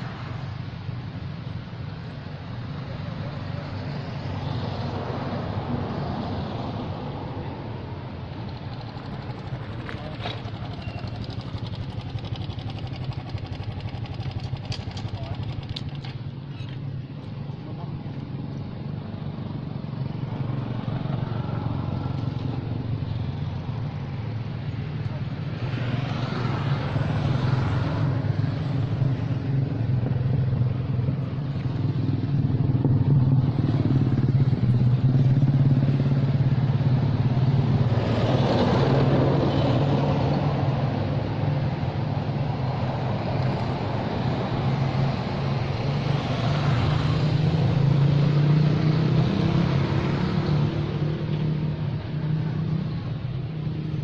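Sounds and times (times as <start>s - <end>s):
engine droning: 5.8s - 54.0s.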